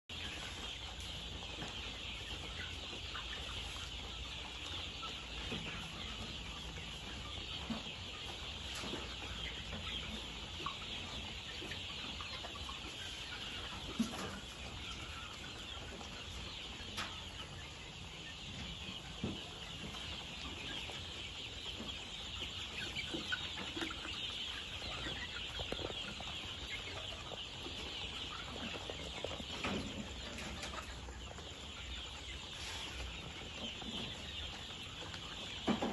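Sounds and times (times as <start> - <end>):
chickens clucking softly: 0.1 - 35.9.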